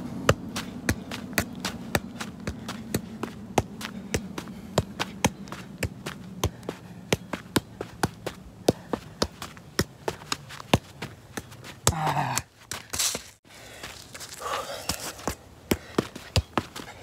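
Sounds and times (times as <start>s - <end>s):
shoe kicking football: 0.2s - 13.4s, 14.9s - 17.0s.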